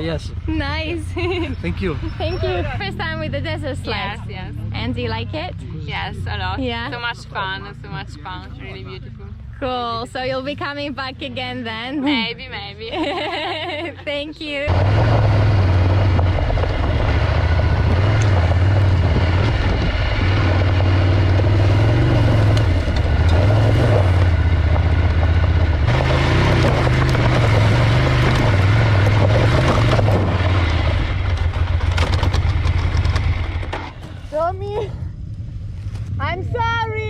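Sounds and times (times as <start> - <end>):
motorcycle engine revving: 0.0 - 13.9, 14.5 - 37.0.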